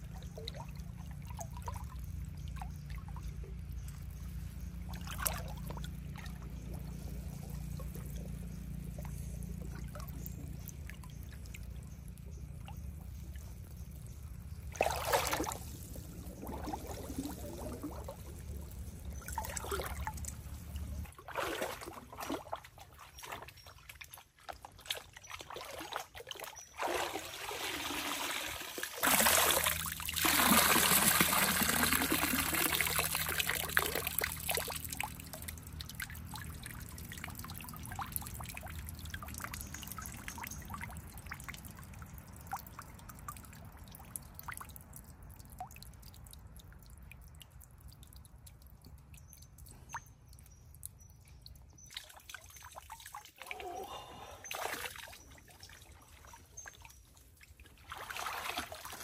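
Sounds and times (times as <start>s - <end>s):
water drips and splashes: 0.0s - 59.0s
water pouring and trickling: 0.0s - 59.0s.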